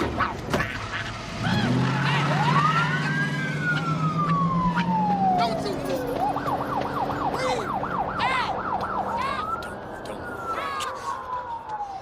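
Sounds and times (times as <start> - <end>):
police siren: 1.1 - 12.0.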